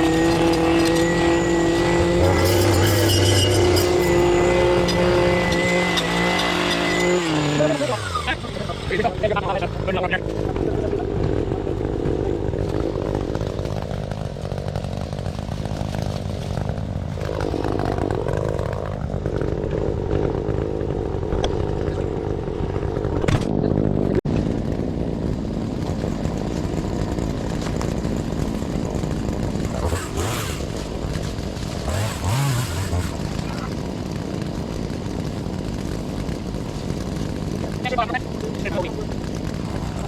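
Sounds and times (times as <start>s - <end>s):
engine running steadily: 0.0s - 40.0s.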